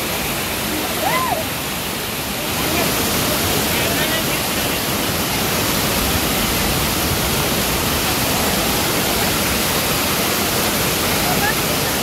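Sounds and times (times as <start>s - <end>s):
waterfall pouring over rocks: 0.0s - 12.0s.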